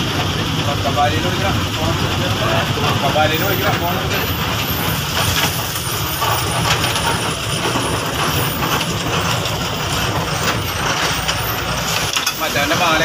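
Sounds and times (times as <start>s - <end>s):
bus diesel engine running: 0.0s - 13.0s
road noise: 0.0s - 13.0s.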